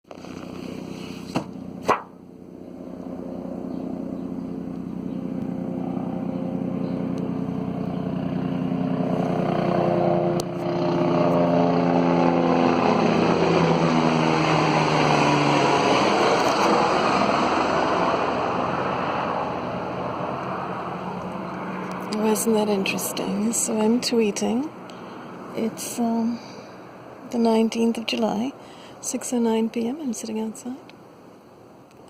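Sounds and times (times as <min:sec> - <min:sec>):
helicopter flying low overhead: 0:00.0 - 0:32.0.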